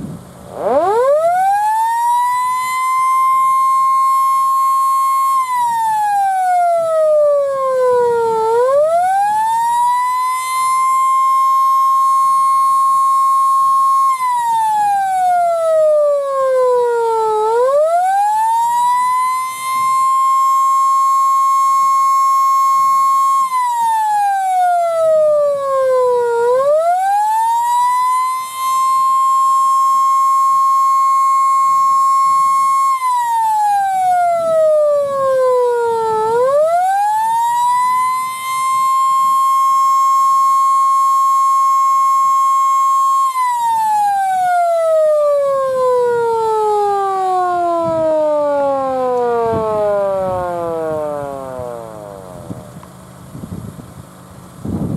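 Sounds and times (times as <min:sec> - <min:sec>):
electric siren wailing: 0:00.0 - 0:53.9.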